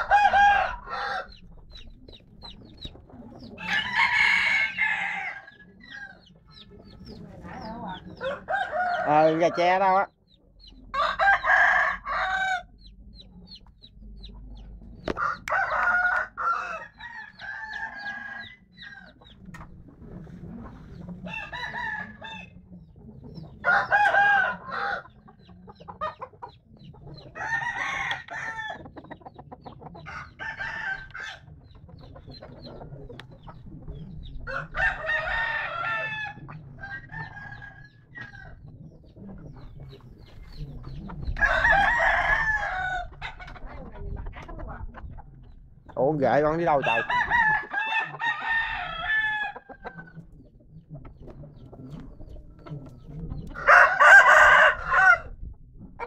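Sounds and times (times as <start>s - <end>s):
roosters crowing: 0.0s - 13.5s, 14.2s - 50.6s, 51.4s - 55.5s.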